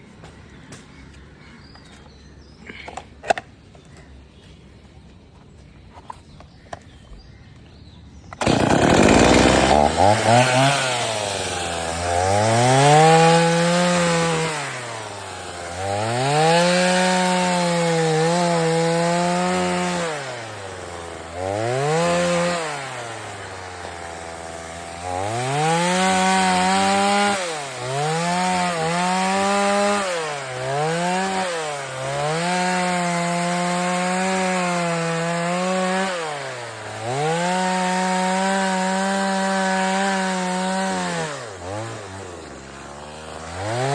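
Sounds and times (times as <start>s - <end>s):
chainsaw engine revving: 8.4s - 43.9s.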